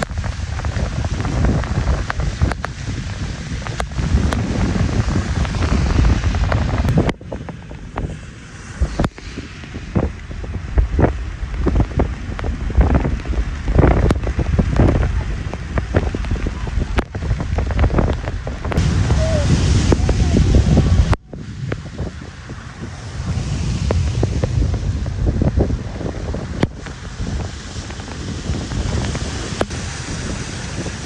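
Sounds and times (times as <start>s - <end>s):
tyres hissing on wet road: 0.0s - 31.0s
wind buffeting microphone: 0.0s - 31.0s.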